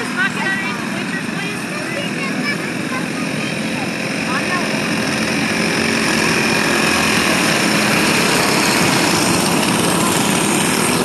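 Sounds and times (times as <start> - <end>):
racing kart engines: 0.0 - 11.0.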